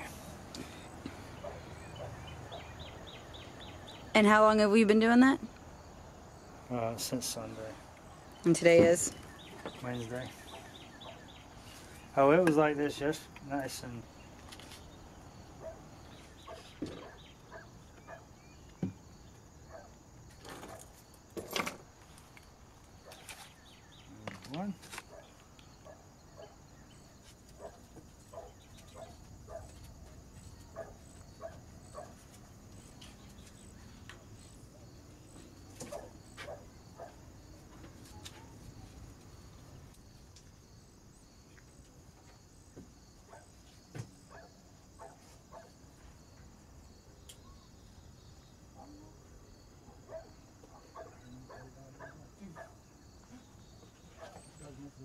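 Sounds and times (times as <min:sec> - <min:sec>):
insect chirping: 0:00.0 - 0:55.0.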